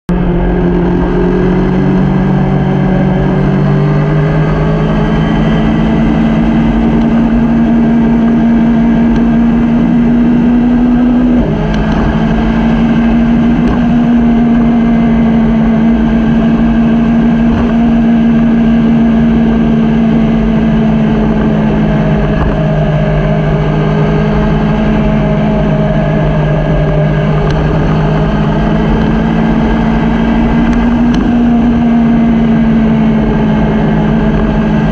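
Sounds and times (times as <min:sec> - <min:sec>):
motorcycle engine running: 0:00.1 - 0:34.9
steady rushing noise: 0:00.1 - 0:34.9.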